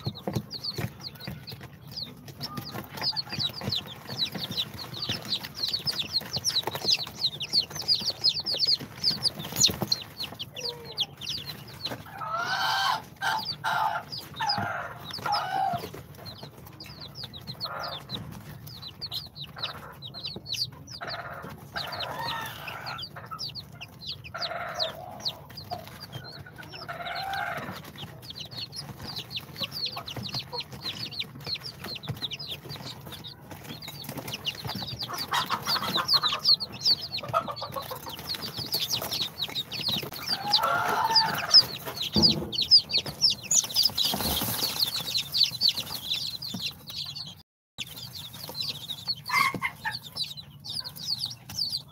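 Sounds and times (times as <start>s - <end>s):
chicken calling: 0.0s - 51.9s
chicks peeping: 0.0s - 51.9s.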